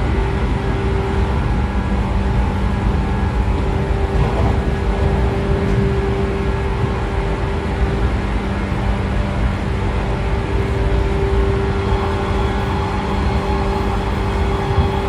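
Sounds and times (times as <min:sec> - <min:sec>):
electric motor whine: 0:00.0 - 0:15.0
train wheels rumbling on rails: 0:00.0 - 0:15.0.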